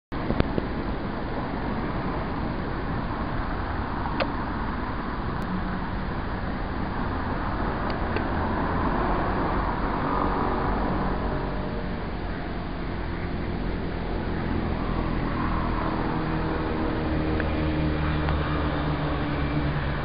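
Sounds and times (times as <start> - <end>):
road traffic hum: 0.1 - 20.0.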